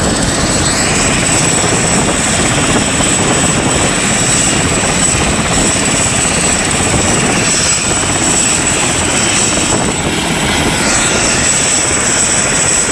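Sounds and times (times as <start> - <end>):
helicopter rotor and engine: 0.0 - 12.9
thin high whine: 0.0 - 12.9.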